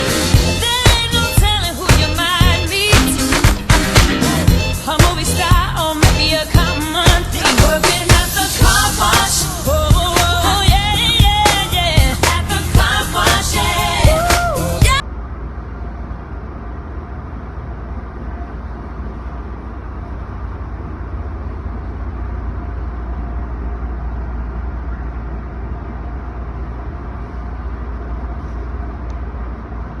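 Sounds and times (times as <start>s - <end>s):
car wash machinery rumble: 0.0s - 30.0s.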